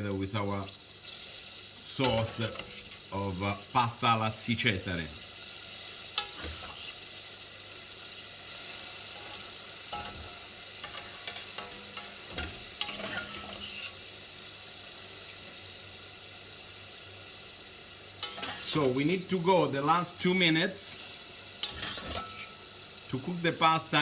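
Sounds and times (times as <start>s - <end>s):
pasta sizzling in a pan: 0.0s - 24.0s.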